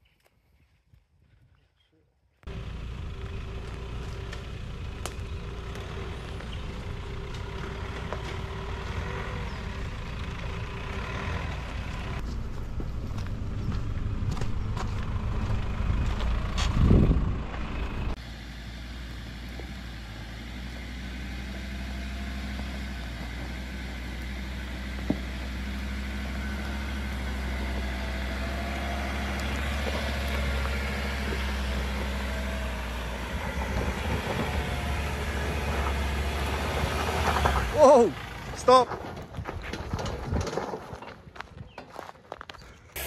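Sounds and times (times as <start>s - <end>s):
engine running low drone: 2.4s - 41.5s.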